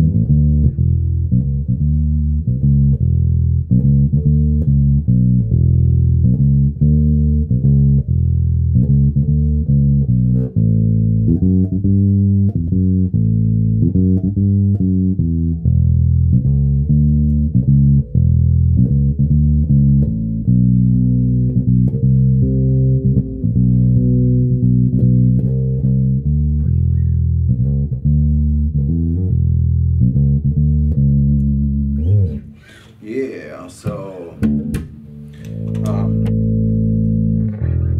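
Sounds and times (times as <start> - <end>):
electric bass guitar plucked notes: 0.0 - 37.9.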